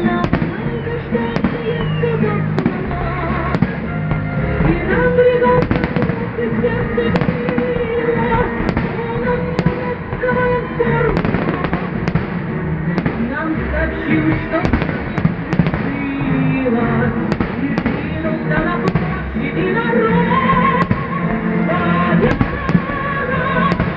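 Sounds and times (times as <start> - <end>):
fireworks bangs: 0.0 - 23.9
music: 0.0 - 23.9.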